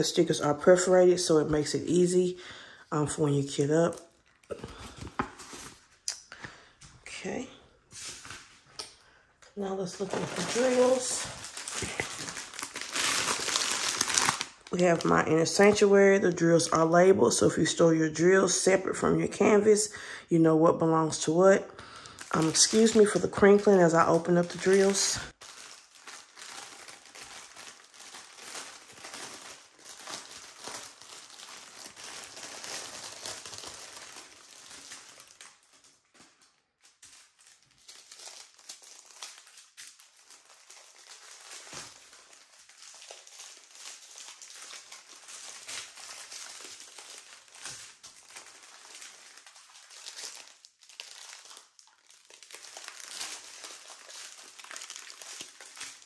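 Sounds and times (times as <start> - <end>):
plastic packaging crinkling: 2.9 - 6.1, 7.9 - 16.8, 21.1 - 56.0.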